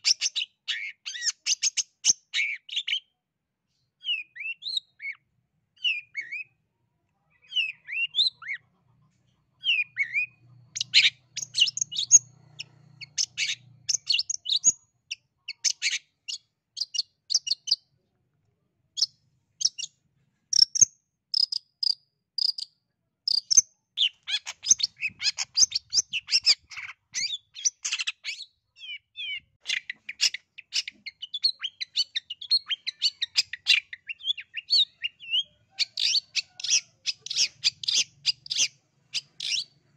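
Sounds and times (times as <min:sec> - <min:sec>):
bird singing fast varied song: 0:00.0 - 0:03.1, 0:03.9 - 0:06.6, 0:07.3 - 0:08.6, 0:09.6 - 0:17.9, 0:20.5 - 0:39.9.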